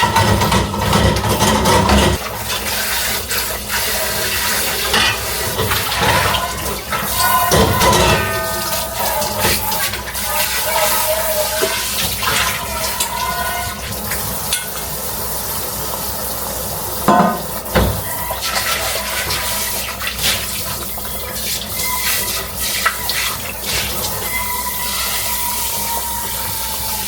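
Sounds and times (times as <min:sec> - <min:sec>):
tap water running into sink: 0:00.0 - 0:27.0.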